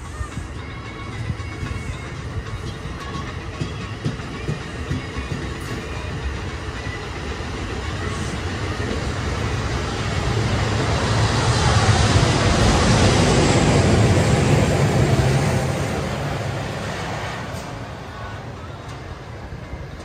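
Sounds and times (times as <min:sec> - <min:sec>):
passing train rumble: 0:00.0 - 0:20.0.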